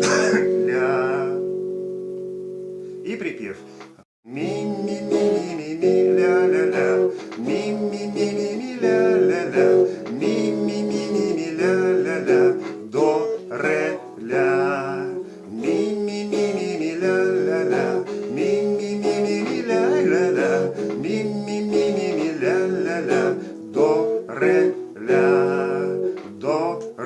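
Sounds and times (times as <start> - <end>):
man singing without words: 0.0 - 1.4, 4.3 - 27.0
guitar playing chords: 0.0 - 3.4, 4.4 - 27.0.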